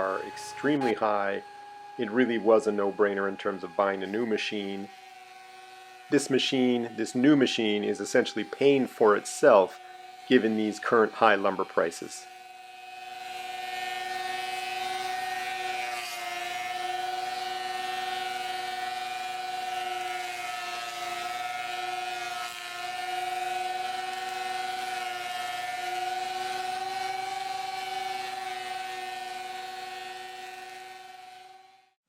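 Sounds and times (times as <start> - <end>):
thickness planer whining: 0.0 - 32.0.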